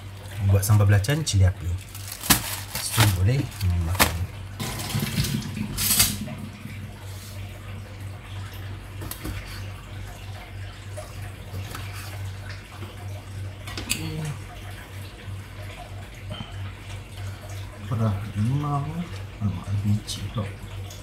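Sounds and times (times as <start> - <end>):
low steady hum: 0.0 - 21.0
tap water running into sink: 1.5 - 21.0.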